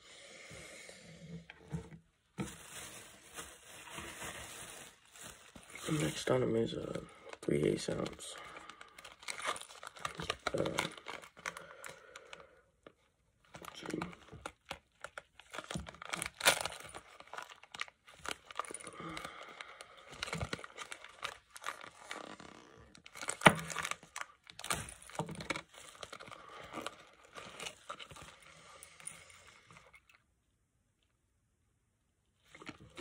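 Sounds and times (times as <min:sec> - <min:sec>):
plastic packaging crinkling and tearing: 0:02.4 - 0:12.4, 0:13.4 - 0:30.2, 0:32.4 - 0:33.0.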